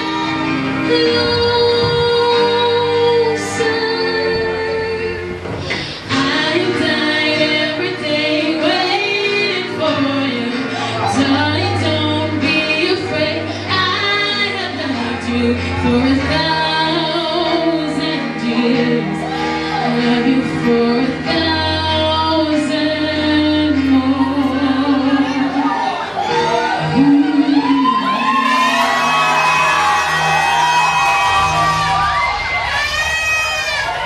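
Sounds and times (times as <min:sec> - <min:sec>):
woman singing into a microphone: 0:00.0 - 0:26.0, 0:26.6 - 0:30.3
backing music: 0:00.0 - 0:34.0.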